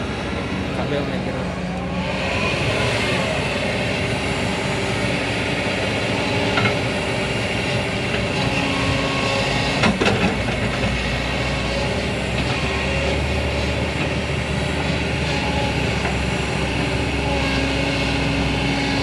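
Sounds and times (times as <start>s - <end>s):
excavator running: 0.0s - 19.0s.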